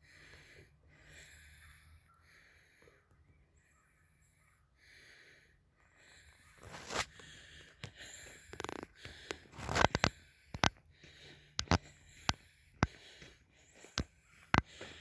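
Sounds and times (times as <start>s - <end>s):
person breathing heavily: 0.0s - 3.1s, 4.6s - 15.0s.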